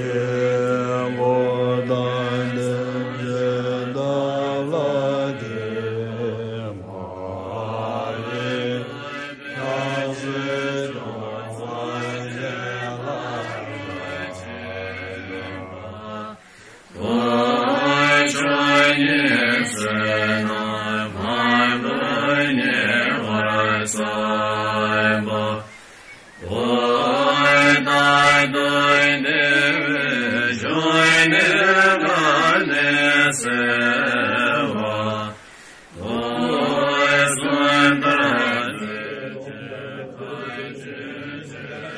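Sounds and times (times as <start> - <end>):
group chanting in unison: 0.0 - 41.9.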